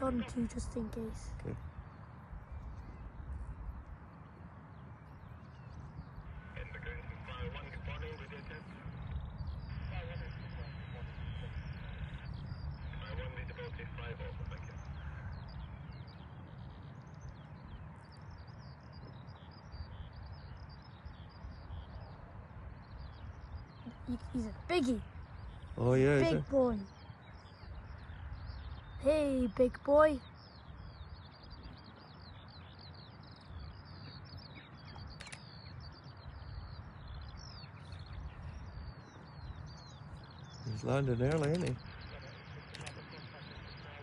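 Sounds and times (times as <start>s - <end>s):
small birds chirping: 0.0s - 44.0s
steady low rumble: 0.0s - 44.0s.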